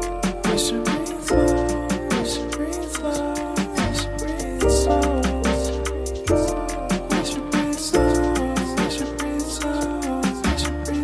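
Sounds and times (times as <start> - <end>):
instrumental music with bass and beat: 0.0 - 11.0.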